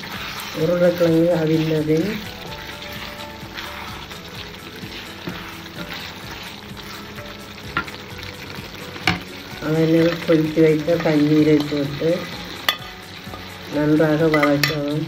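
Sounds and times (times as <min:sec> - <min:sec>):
food sizzling in a pan: 0:00.0 - 0:15.0
wooden spoon scraping a pan: 0:00.0 - 0:15.0.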